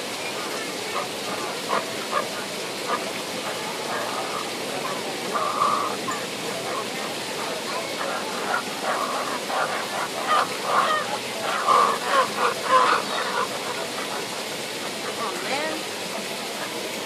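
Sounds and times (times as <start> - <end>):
birds squawking: 0.3 - 15.9.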